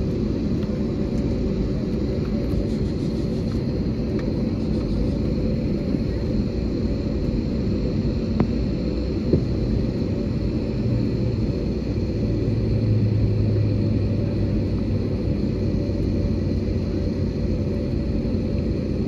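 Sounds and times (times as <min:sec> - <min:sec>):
jet engines and wheels rumbling: 0:00.0 - 0:19.0.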